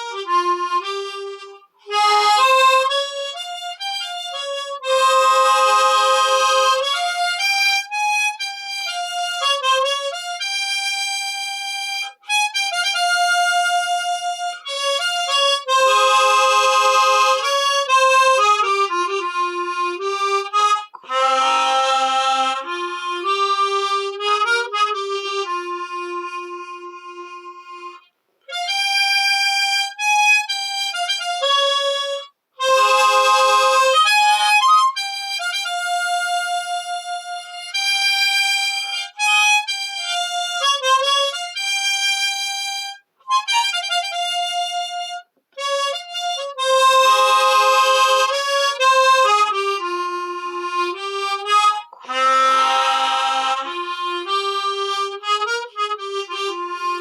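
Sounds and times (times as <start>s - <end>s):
solo harmonica melody: 0.0s - 57.0s.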